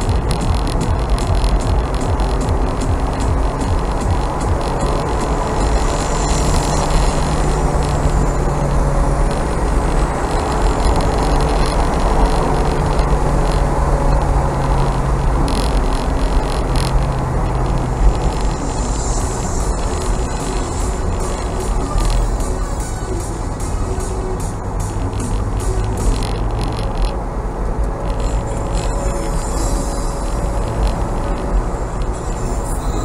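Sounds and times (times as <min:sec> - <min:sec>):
car engine running: 0:00.0 - 0:33.0
road and wind noise: 0:00.0 - 0:33.0.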